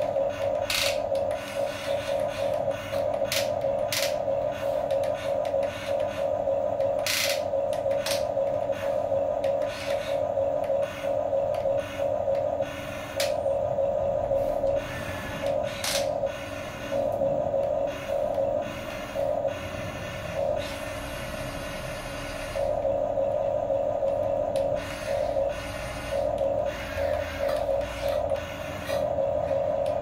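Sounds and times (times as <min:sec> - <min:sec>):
small electric motors whining: 0:00.0 - 0:13.4, 0:14.3 - 0:22.9, 0:24.0 - 0:30.0.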